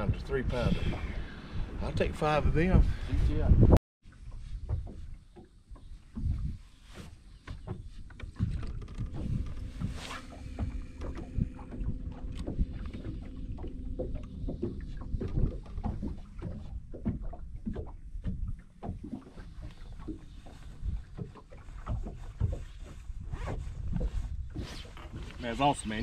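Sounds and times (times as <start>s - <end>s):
water lapping against boat hull: 0.0s - 3.4s, 4.0s - 26.0s
knocks and clunks in a boat: 0.0s - 26.0s.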